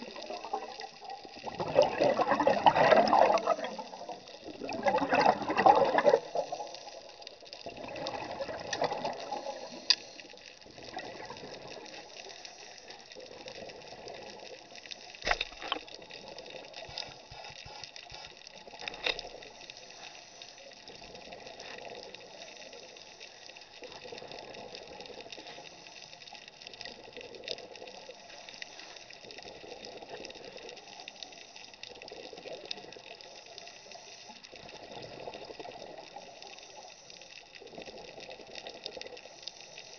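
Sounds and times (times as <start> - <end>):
underwater breathing bubbles: 0.0 - 39.9.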